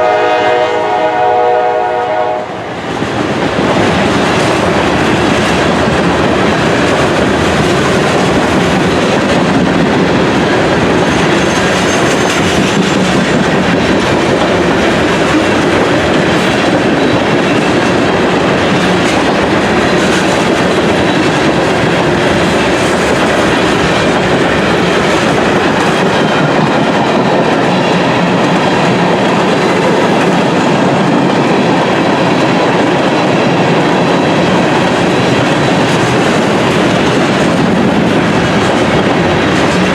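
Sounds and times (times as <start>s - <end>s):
train wheels clattering on rails: 2.1s - 39.9s.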